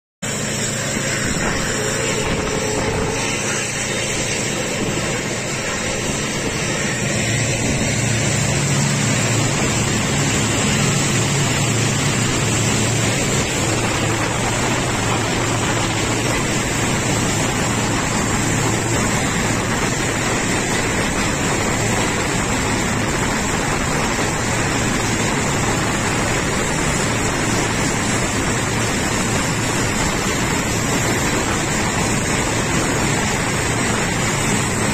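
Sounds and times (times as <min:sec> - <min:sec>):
passenger train running on track: 0:00.2 - 0:34.9.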